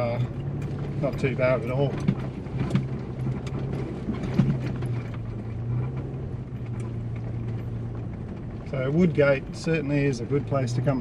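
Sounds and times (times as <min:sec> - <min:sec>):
knocks and rattles from bumps: 0:00.0 - 0:09.2
vehicle engine droning: 0:00.0 - 0:11.0.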